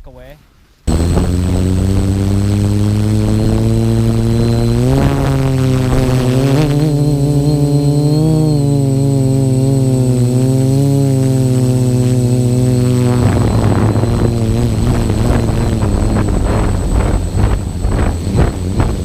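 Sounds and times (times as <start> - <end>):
fluttering rush of air: 0.9 - 19.0
quadcopter motors buzzing: 0.9 - 19.0.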